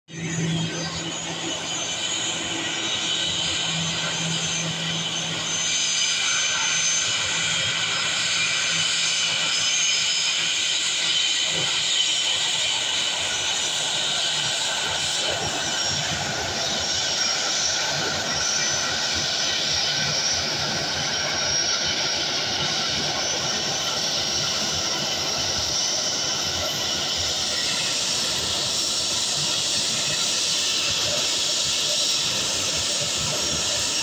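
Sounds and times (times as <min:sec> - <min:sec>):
jet engines whining: 0:00.1 - 0:34.0.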